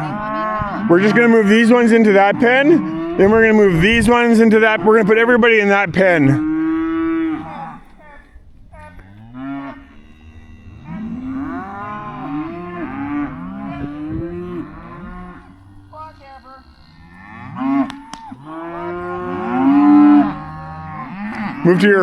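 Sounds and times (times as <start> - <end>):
calves mooing: 0.0 - 22.0.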